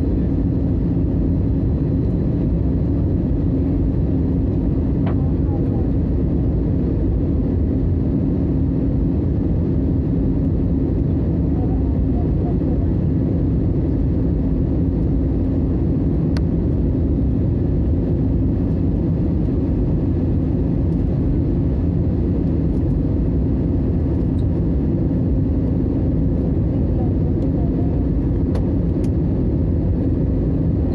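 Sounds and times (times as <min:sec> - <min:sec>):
jet engines rumbling: 0:00.0 - 0:30.9
steady hum: 0:00.0 - 0:30.9.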